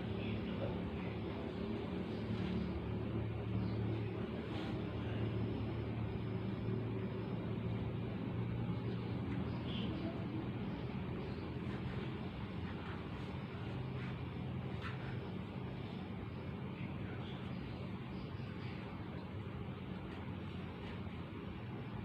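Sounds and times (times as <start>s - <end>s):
constant hiss: 0.0s - 22.0s
machinery drone: 0.0s - 22.0s.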